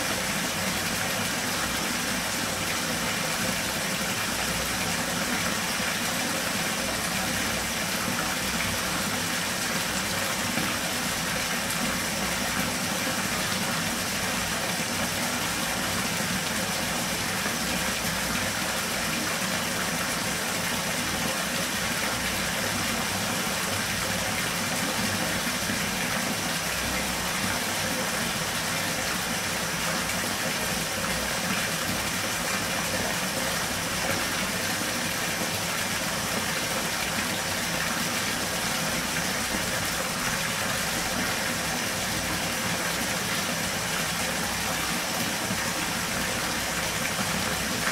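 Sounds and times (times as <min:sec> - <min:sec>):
water pouring into bathtub: 0:00.0 - 0:47.9.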